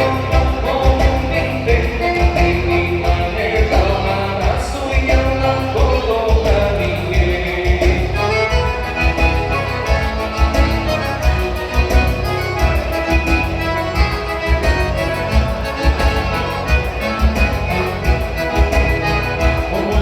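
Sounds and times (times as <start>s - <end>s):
accordion dance music with bass beat: 0.0s - 20.0s.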